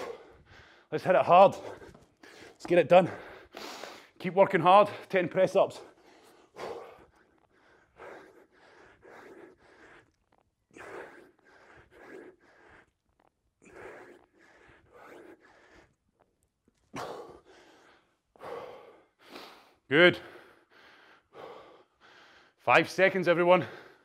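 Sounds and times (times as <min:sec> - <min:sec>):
man breathing hard: 0:00.0 - 0:04.2, 0:05.7 - 0:22.6, 0:23.6 - 0:24.0.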